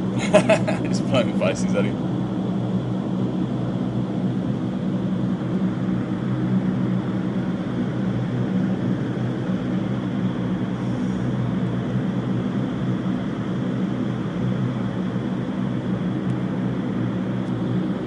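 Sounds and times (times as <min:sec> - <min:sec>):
deep fan hum: 0:00.0 - 0:18.0.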